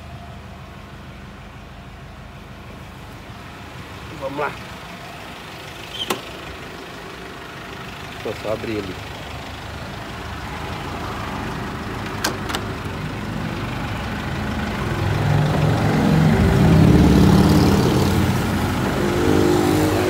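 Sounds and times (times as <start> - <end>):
diesel engine idling: 0.0 - 19.2.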